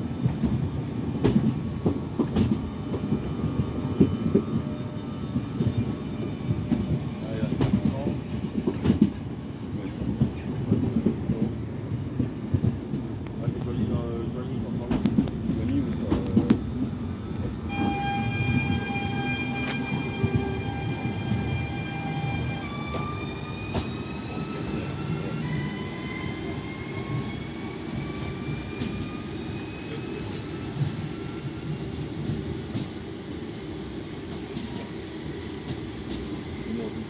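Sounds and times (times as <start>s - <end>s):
low train rumble: 0.0s - 37.0s
train inverter whine: 0.0s - 37.0s.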